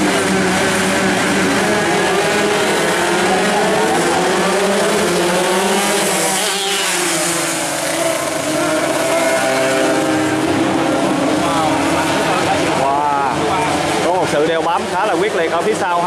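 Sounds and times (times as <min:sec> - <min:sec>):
racing motorcycles revving and passing: 0:00.0 - 0:16.0.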